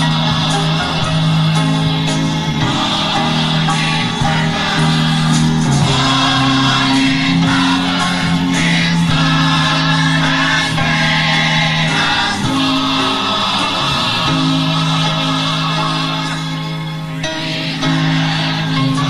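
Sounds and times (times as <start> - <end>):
group singing gospel song: 0.0 - 19.0.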